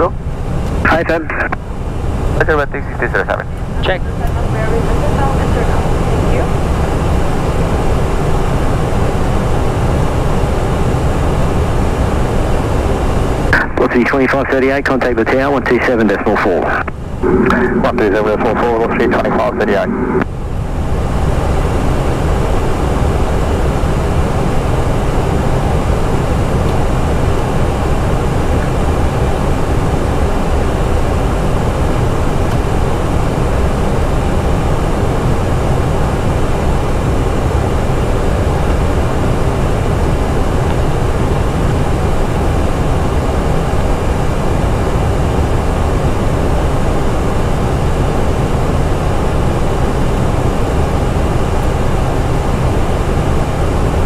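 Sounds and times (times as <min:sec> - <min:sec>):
cockpit airflow and engine noise: 0:00.0 - 0:54.0.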